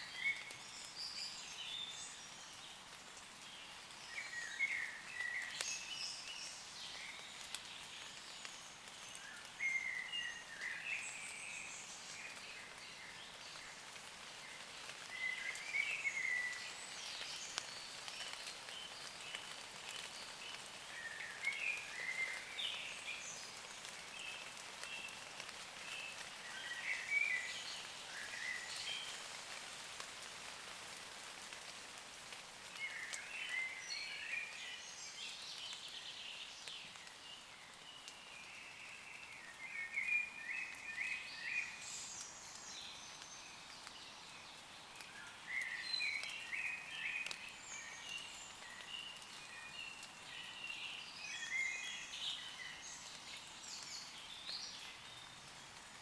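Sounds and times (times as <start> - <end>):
light rain pattering on leaves: 0.0 - 56.0.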